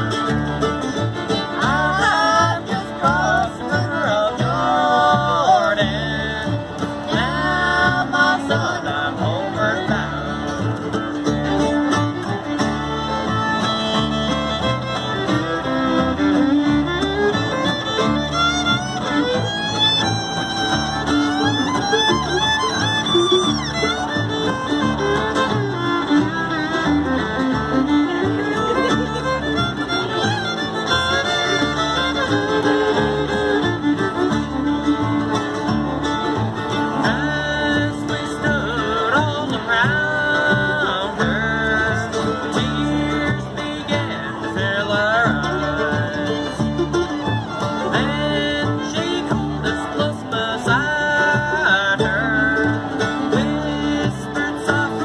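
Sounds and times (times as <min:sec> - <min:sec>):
fiddle melody: 0:00.0 - 0:55.0
strummed acoustic guitar: 0:00.0 - 0:55.0
upright bass: 0:00.0 - 0:55.0.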